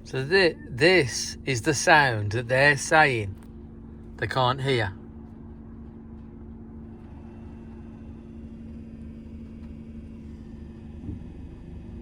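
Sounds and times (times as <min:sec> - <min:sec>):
blower fan motor buzzing: 0:00.0 - 0:12.0.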